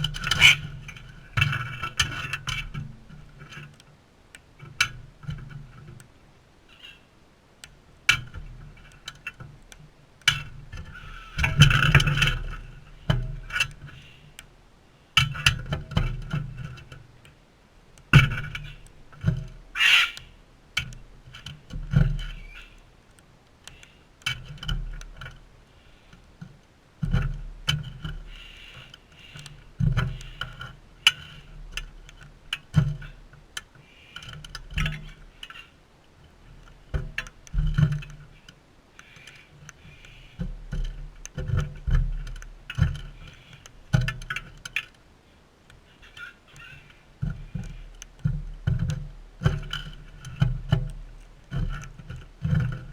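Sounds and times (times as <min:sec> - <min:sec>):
claws on feeder: 0:04.7 - 0:52.9.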